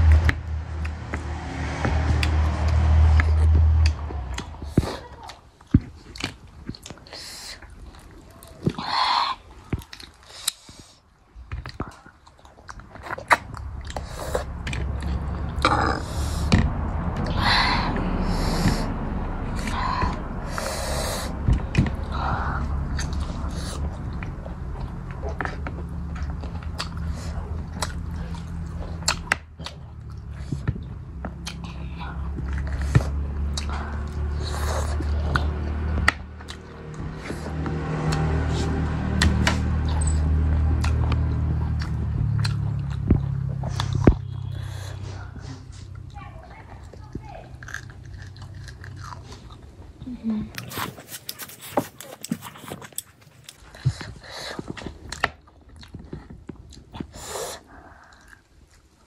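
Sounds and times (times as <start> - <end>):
wet chewing and biting: 0.0 - 46.2, 46.8 - 59.0.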